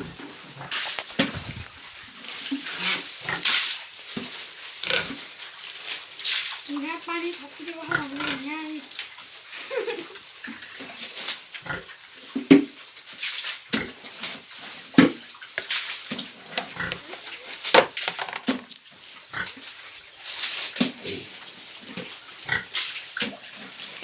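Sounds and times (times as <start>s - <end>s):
pigs grunting and snuffling: 0.0s - 5.9s, 6.7s - 8.9s, 10.4s - 12.8s, 13.6s - 17.6s, 19.0s - 24.0s.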